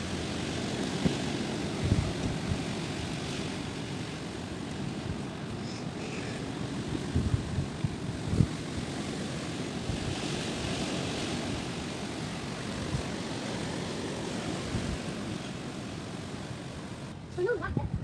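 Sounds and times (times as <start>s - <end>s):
strong gusting wind: 0.0s - 18.0s
wind buffeting microphone: 0.0s - 18.0s.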